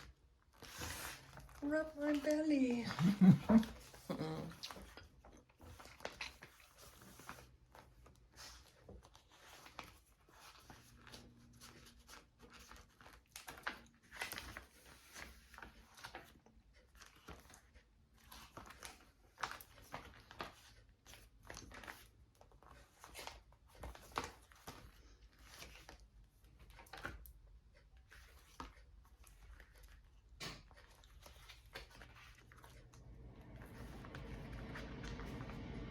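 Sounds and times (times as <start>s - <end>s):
paper rustling and crinkling: 0.0s - 3.8s, 5.6s - 27.3s, 28.0s - 35.0s.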